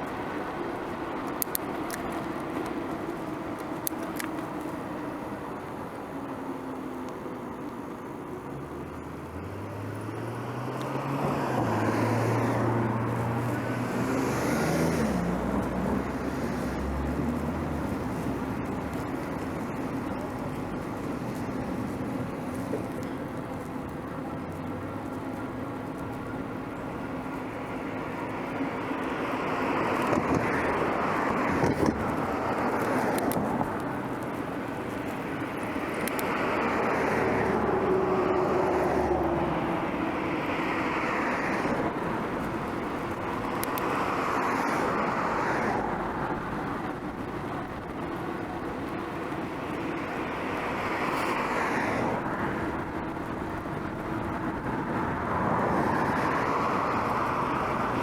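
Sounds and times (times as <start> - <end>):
cars passing by: 0.0 - 58.0
road noise: 0.0 - 58.0.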